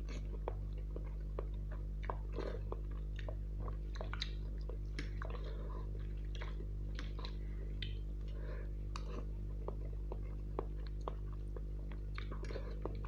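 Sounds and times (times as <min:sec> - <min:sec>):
steady low hum: 0:00.0 - 0:13.0
wet mouth chewing sounds: 0:00.0 - 0:13.0.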